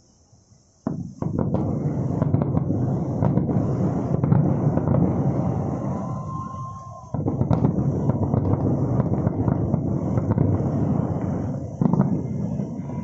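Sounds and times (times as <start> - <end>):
fireworks bangs and crackles: 0.8 - 13.0
continuous rumble: 1.1 - 13.0.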